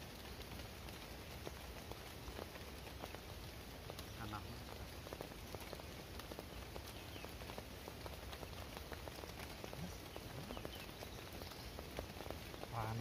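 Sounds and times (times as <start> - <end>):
heavy rain on a tarp: 0.0 - 13.0
sharp raindrop ticks: 0.0 - 13.0.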